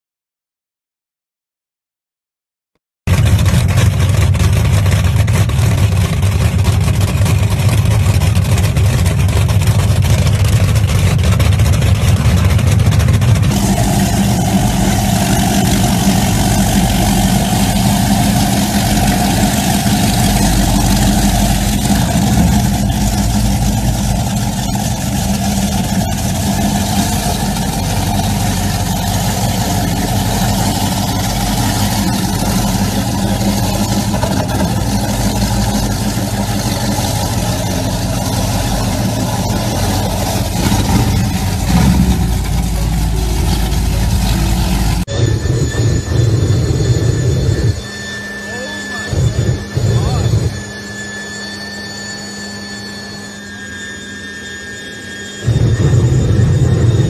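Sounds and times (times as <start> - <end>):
boat engines idling: 3.1 - 53.6
powerboat engines running: 3.1 - 57.0.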